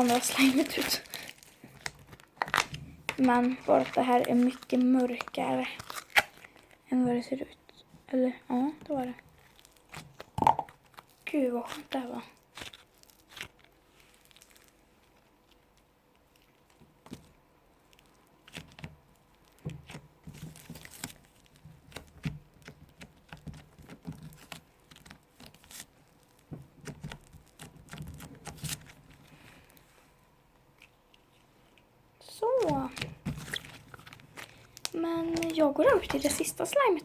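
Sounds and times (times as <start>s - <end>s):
slime squelching by hand: 0.0s - 6.8s, 8.5s - 29.8s, 30.7s - 37.0s.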